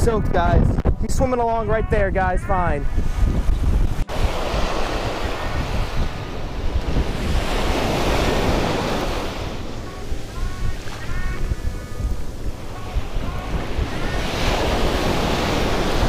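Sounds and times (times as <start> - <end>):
wind buffeting microphone: 0.0 - 16.0
ocean surf breaking on beach: 3.0 - 16.0.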